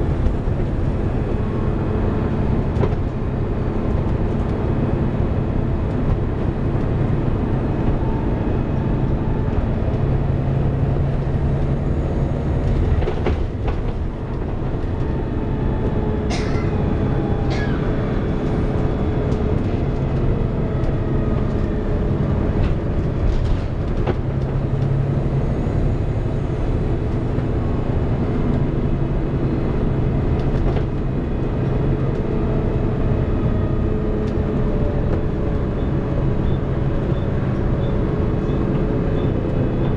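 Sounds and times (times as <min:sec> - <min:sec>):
diesel bus engine drone: 0:00.0 - 0:39.9.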